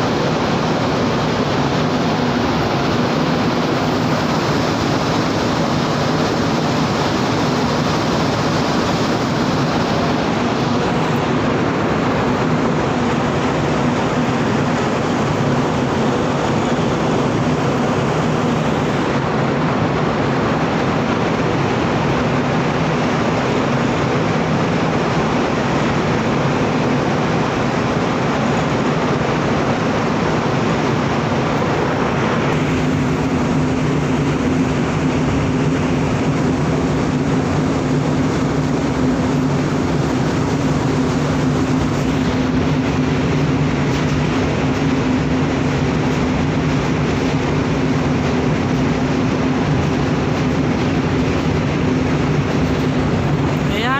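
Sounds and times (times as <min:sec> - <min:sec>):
ship engines droning: 0:00.0 - 0:53.9.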